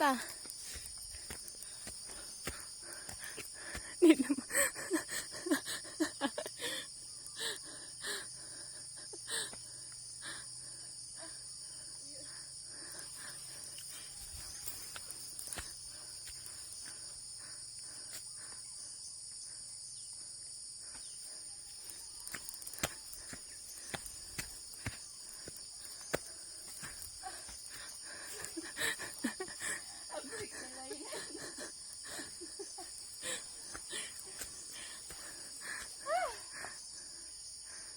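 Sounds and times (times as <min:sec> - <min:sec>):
insects droning: 0:00.0 - 0:37.9.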